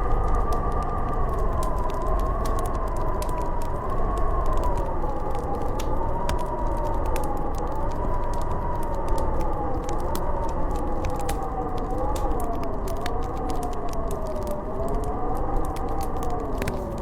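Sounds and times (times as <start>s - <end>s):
howling wind: 0.0s - 17.0s
wood fire crackling: 0.0s - 17.0s.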